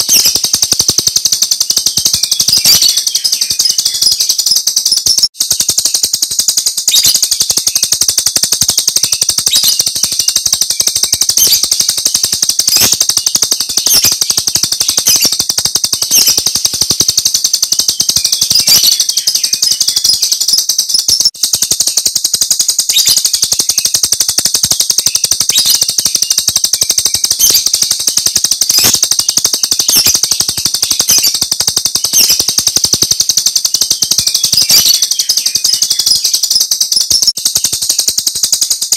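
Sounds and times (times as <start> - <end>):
bird rapid rattling calls: 0.0 - 38.9.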